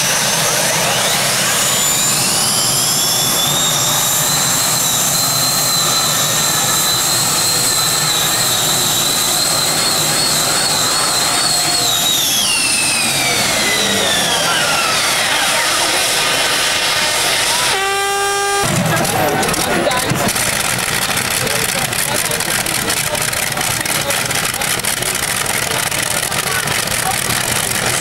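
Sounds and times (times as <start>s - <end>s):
gas turbines whining: 0.0s - 28.0s.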